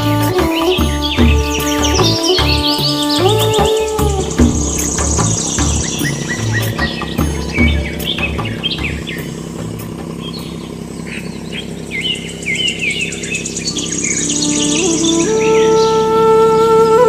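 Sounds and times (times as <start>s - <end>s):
steady low hum: 0.0s - 16.4s
small birds chirping: 0.4s - 16.0s.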